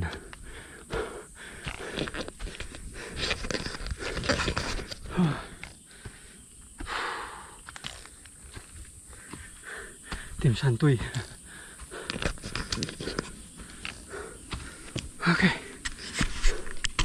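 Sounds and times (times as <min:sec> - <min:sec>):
hard breathing: 0:00.0 - 0:10.4, 0:11.0 - 0:17.0
footsteps on dirt trail: 0:00.0 - 0:17.0.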